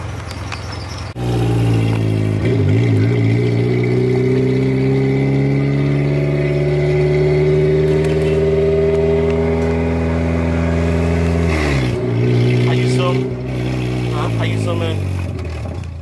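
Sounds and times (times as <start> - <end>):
car engine accelerating: 1.0 - 16.0.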